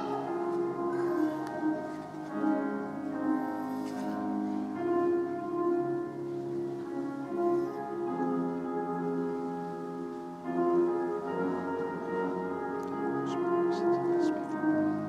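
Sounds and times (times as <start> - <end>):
church music on keyboard: 0.0 - 15.0.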